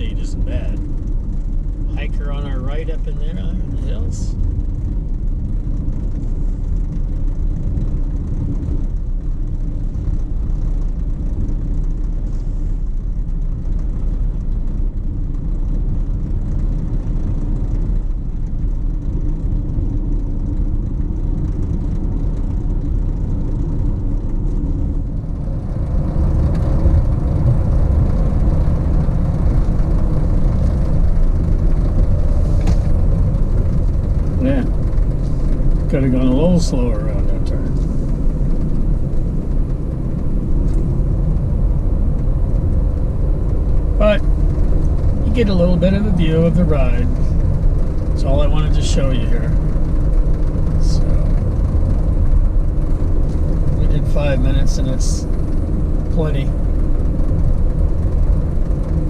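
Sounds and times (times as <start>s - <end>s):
vehicle road and engine noise: 0.0s - 59.0s.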